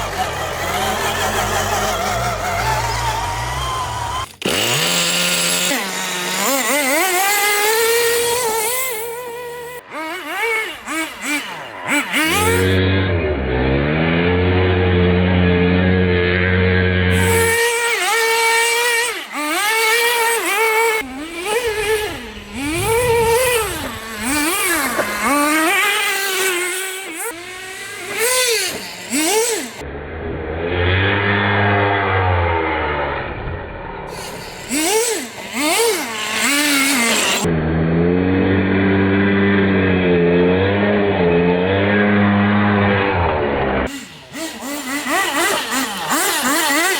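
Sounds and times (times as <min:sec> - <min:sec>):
low steady engine drone: 0:00.0 - 0:04.4, 0:05.0 - 0:46.9
small engine revving: 0:00.0 - 0:46.9.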